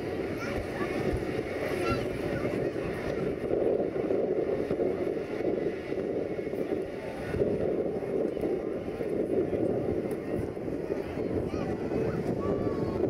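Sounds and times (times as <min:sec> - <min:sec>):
distant jet engines rushing: 0:00.0 - 0:13.0.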